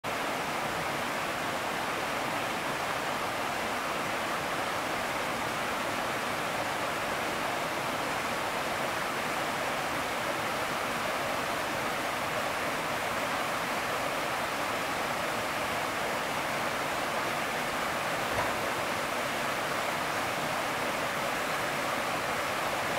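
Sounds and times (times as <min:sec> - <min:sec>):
creek water rushing over rocks: 0:00.1 - 0:22.9.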